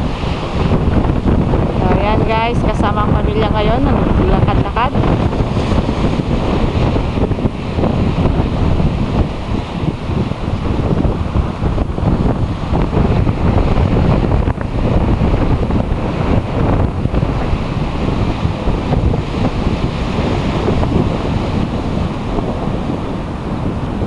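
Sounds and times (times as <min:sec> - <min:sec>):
sea waves on shore: 0:00.0 - 0:24.0
wind blowing on microphone: 0:00.0 - 0:24.0.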